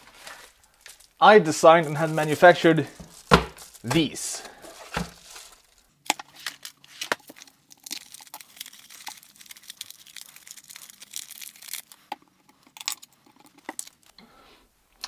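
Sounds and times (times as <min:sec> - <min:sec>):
bubble wrap crinkling and crackling: 0:00.0 - 0:12.1.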